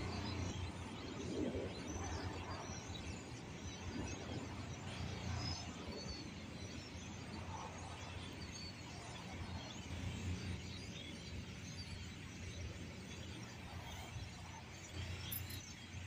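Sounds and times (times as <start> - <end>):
starlings chirping and chattering: 0.0 - 16.0.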